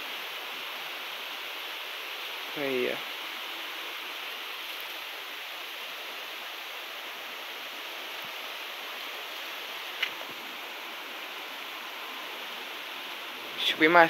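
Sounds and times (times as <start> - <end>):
heavy rain hiss: 0.0 - 14.0.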